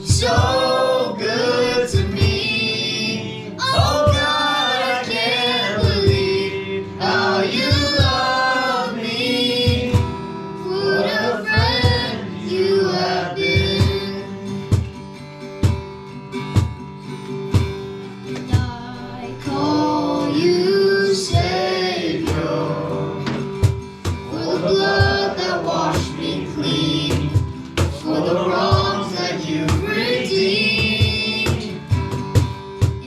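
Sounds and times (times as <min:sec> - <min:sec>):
voices singing: 0:00.0 - 0:14.8, 0:18.4 - 0:33.0
guitar: 0:00.0 - 0:33.0
steady drum beat: 0:00.0 - 0:33.0.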